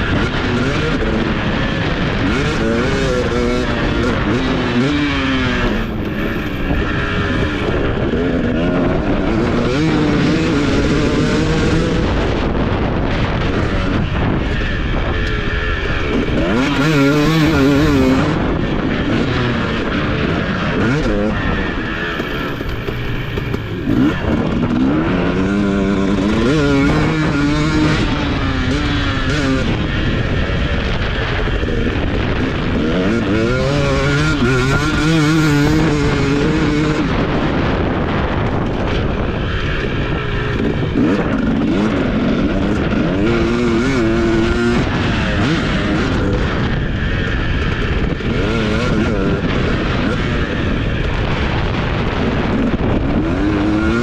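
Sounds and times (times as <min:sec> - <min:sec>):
motocross bike engine revving: 0:00.0 - 0:54.0
wind noise: 0:00.0 - 0:54.0.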